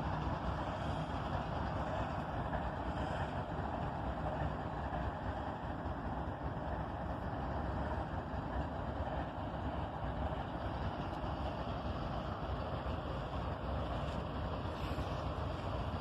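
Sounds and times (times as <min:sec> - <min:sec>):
freight locomotives idling: 0:00.0 - 0:16.0
steady low rumble: 0:00.0 - 0:16.0.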